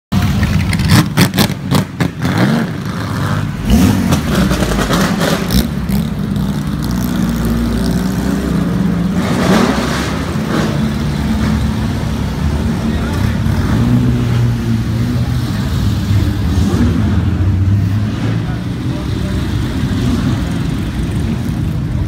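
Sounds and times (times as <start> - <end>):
racing car engines revving: 0.2 - 22.0.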